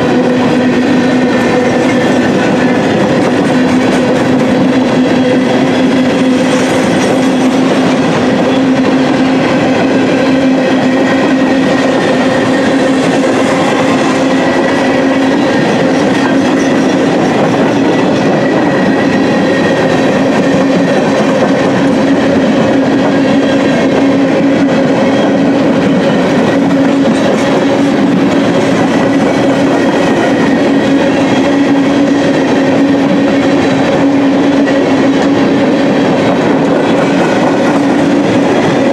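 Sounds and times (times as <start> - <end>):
train wheels clattering on rail: 0.0 - 38.9.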